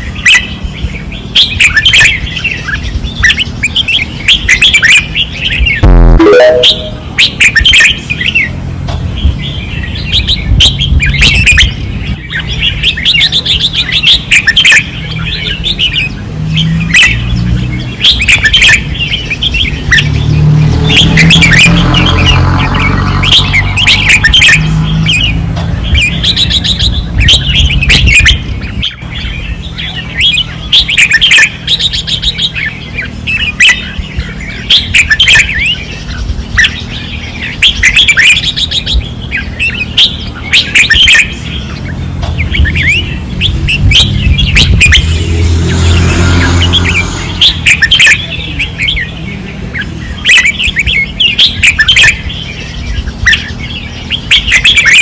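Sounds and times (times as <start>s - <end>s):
birds singing warbled phrases: 0.0s - 55.0s.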